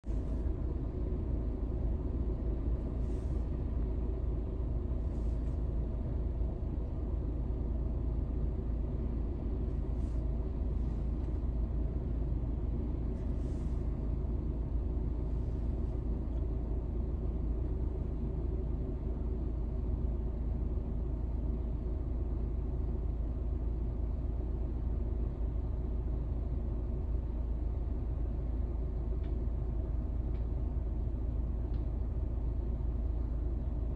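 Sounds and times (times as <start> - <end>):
jet engines taxiing drone: 0.1 - 33.9.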